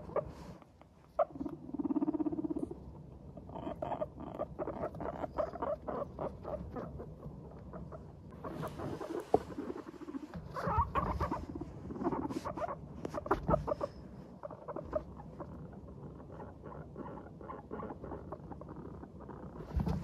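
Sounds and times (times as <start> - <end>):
guinea pigs chutting: 0.0 - 20.0.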